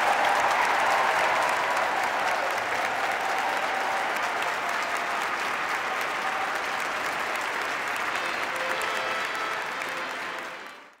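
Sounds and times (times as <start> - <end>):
congregation applauding: 0.0 - 11.0.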